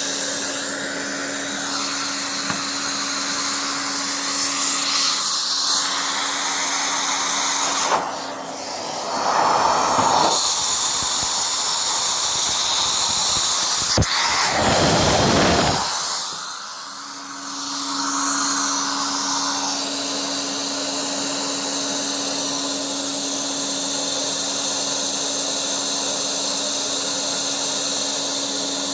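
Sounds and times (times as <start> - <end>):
vacuum cleaner rushing air: 0.0 - 28.9.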